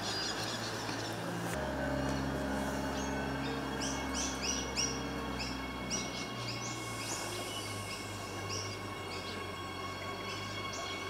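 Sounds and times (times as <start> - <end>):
birds chirping: 0.0 - 11.0
electric train humming: 0.0 - 11.0.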